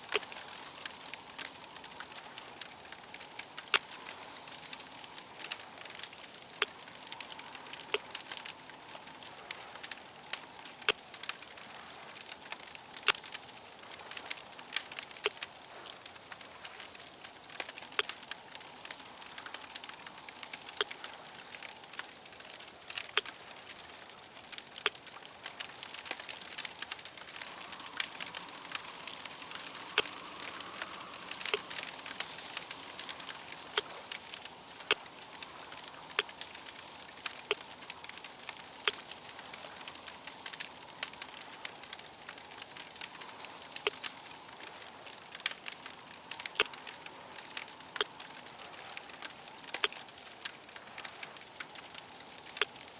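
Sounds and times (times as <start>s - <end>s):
fire crackling with pops: 0.0s - 52.9s.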